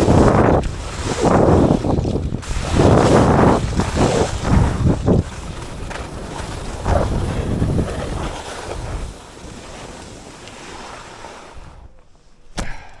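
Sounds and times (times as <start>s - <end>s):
wind buffeting microphone: 0.0s - 12.0s
skis scraping over snow: 0.0s - 12.3s.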